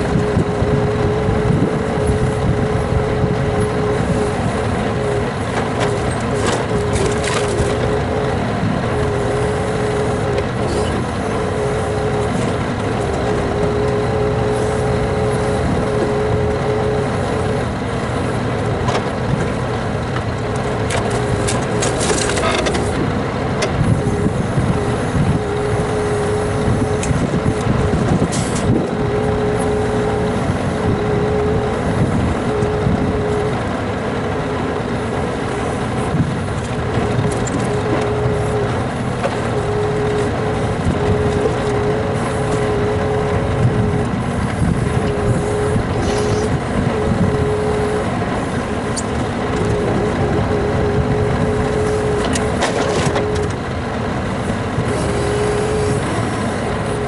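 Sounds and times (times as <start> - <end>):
hydraulic whine: 0.0 - 57.0
truck engine running: 0.0 - 57.0.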